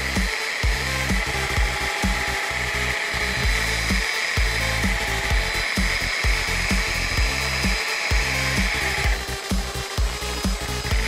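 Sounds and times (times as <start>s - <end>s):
background music with beat: 0.0s - 11.0s
rotary polisher hissing: 0.0s - 11.0s.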